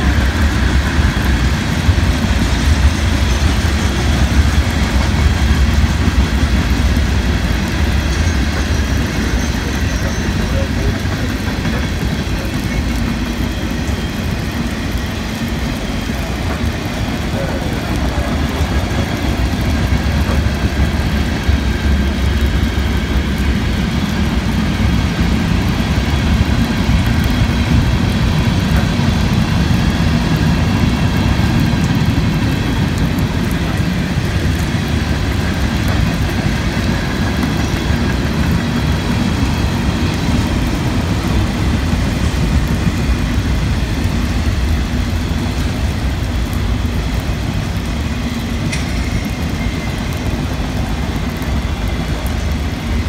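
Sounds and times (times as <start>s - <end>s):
heavy rain falling: 0.0s - 53.0s
train wheels rumbling on rails: 0.0s - 53.0s.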